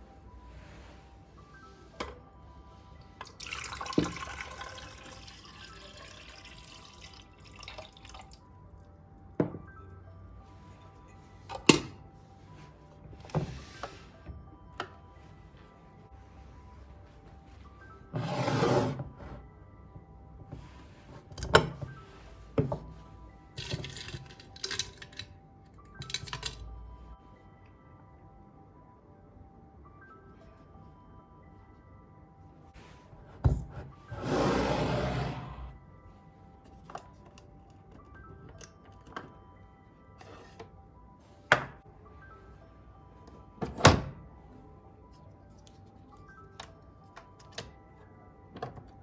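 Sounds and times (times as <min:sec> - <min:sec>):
soft background music: 0:00.0 - 0:49.0.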